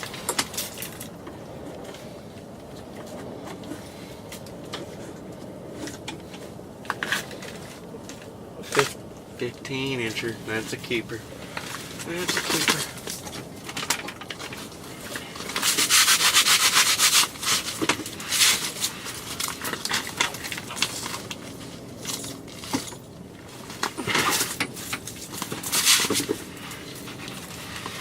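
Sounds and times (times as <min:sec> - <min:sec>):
rustling and scraping: 0:00.0 - 0:28.0.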